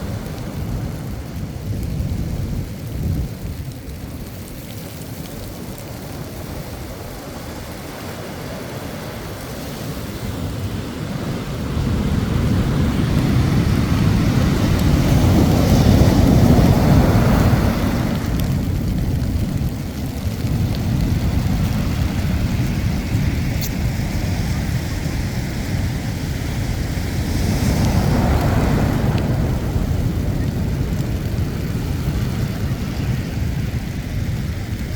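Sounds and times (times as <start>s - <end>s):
sea waves washing onto shore: 0.0s - 34.9s.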